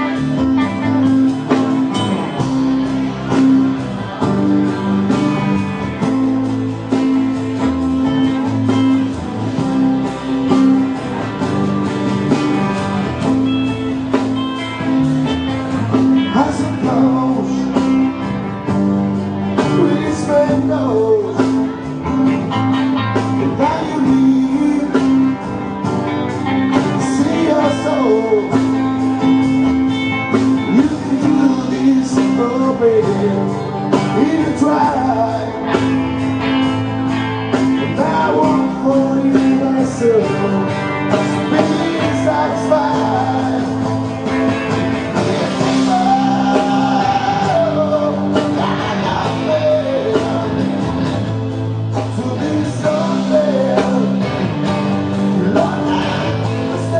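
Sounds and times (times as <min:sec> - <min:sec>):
electric guitar lead bending: 0:00.0 - 0:56.9
live rock band playing: 0:00.0 - 0:56.9
regular drum beat: 0:00.0 - 0:56.9.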